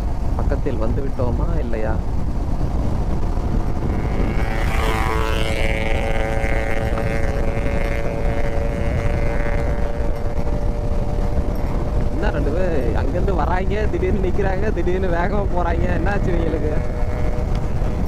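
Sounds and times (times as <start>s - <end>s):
motorcycle engine drone: 0.0s - 18.0s
wind on microphone: 0.0s - 18.0s.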